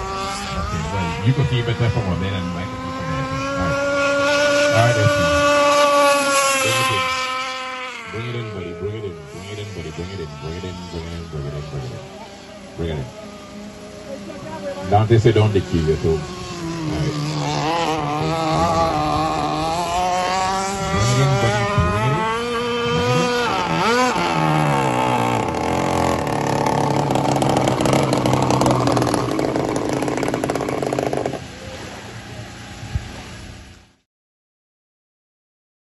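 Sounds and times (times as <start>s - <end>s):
model boat engine at high revs: 0.0s - 33.9s.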